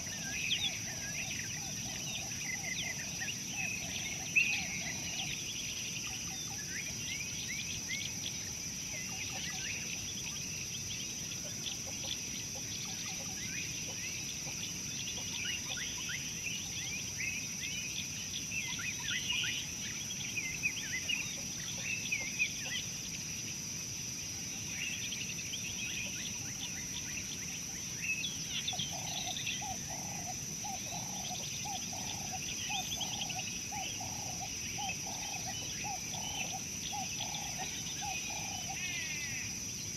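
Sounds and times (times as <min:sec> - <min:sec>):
lower repeated bird calls: 0:00.0 - 0:23.2, 0:24.5 - 0:39.9.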